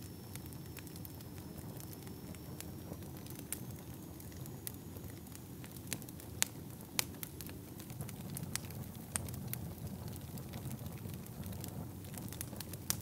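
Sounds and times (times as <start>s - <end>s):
fire crackling: 0.0s - 13.0s
fire pops and snaps: 0.1s - 13.0s.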